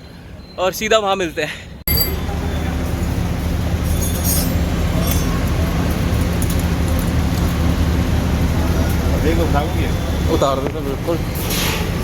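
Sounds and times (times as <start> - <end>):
street noise: 0.0 - 12.0
low engine hum: 1.9 - 12.0.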